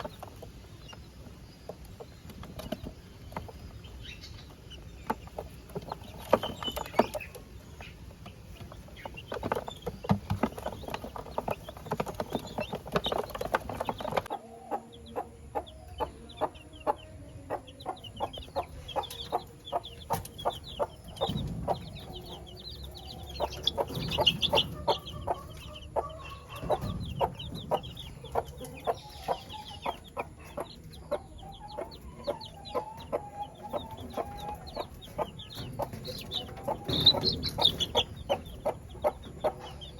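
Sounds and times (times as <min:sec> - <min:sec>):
chickens clucking: 0:00.0 - 0:39.9
chicks cheeping: 0:00.0 - 0:39.9.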